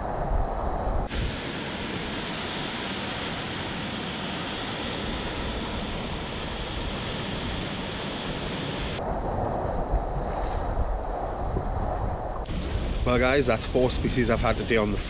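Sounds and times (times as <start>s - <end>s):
wind buffeting microphone: 0.0s - 3.8s, 4.4s - 15.0s.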